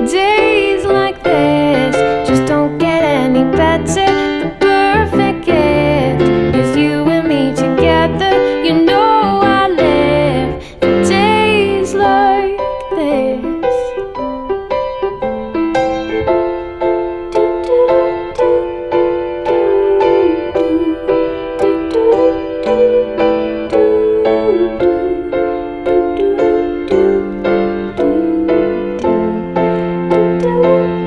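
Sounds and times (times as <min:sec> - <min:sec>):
piano chords over bass notes: 0:00.0 - 0:31.0.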